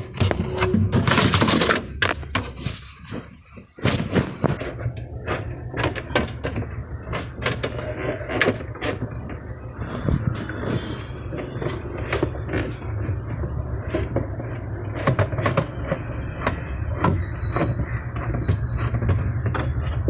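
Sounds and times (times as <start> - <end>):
parts knocking and clattering: 0.0 - 20.0.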